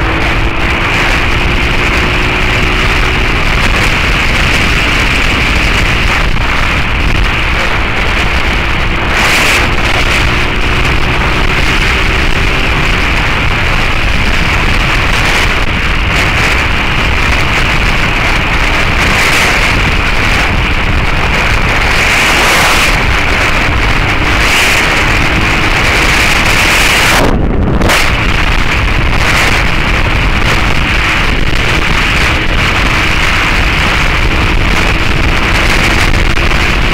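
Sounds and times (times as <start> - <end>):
motorcycle engine: 0.0 - 36.9
wind rushing over microphone: 0.0 - 36.9.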